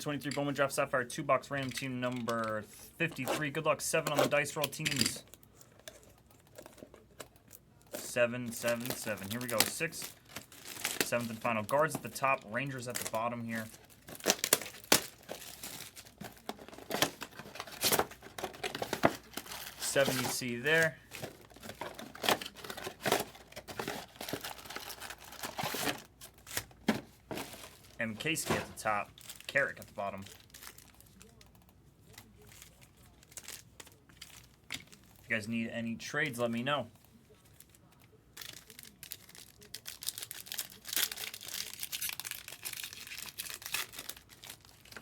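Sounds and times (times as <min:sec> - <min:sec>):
foil packaging crinkling and tearing: 0:03.2 - 0:35.4, 0:37.3 - 0:45.0.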